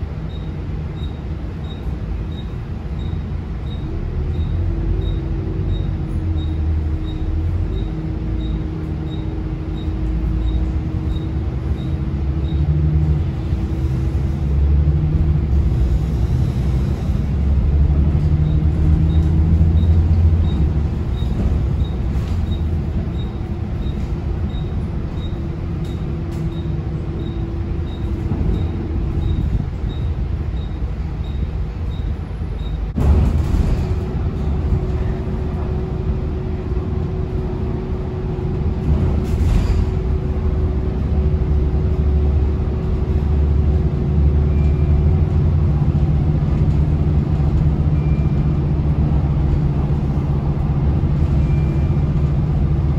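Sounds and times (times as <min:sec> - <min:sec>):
bus diesel engine droning: 0:00.0 - 0:52.9.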